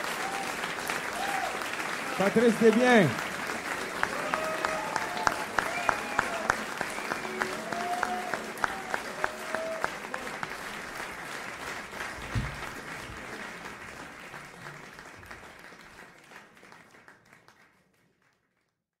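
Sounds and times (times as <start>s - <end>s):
audience applauding: 0.0s - 18.7s.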